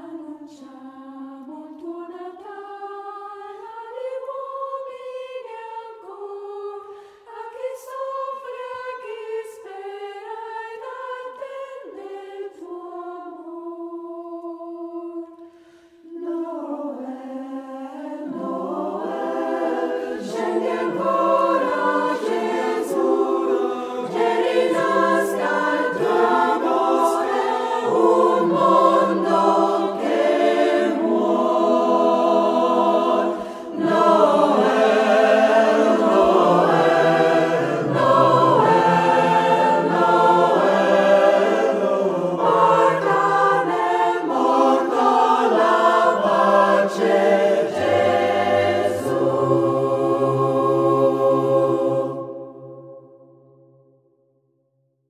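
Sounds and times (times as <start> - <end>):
choir singing: 0.0 - 53.8.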